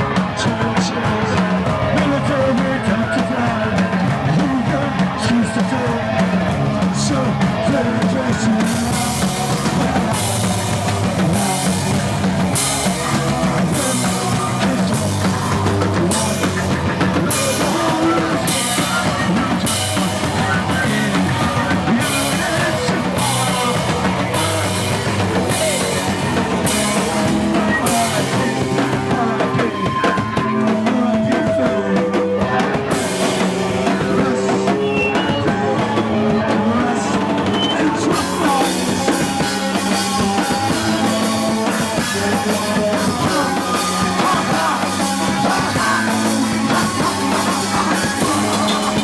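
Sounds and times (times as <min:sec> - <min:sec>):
heavy drum-kit playing: 0:00.0 - 0:49.0
live rock band playing: 0:00.0 - 0:49.0.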